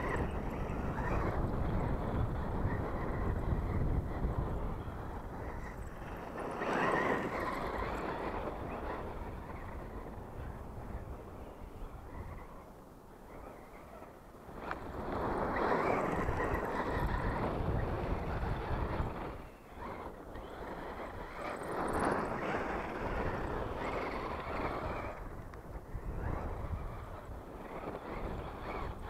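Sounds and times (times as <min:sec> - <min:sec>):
rc truck tyres on gravel: 0:00.0 - 0:29.0
wind buffeting microphone: 0:00.0 - 0:29.0.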